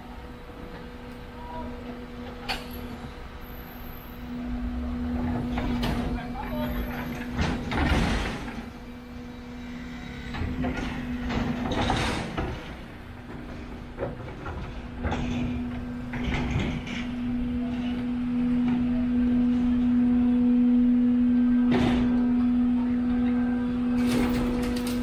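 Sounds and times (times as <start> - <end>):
steady low hum: 0.0 - 25.0
street noise: 0.0 - 25.0.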